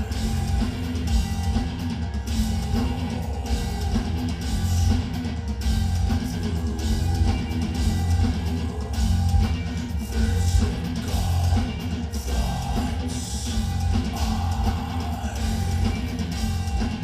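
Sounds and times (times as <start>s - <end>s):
distorted guitars and bass: 0.0s - 17.0s
double-kick drums and cymbals: 0.0s - 17.0s.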